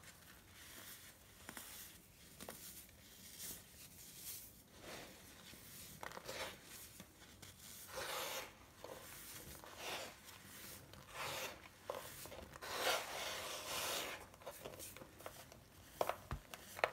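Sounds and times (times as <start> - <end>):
hands crunching baking soda powder: 0.0 - 16.9.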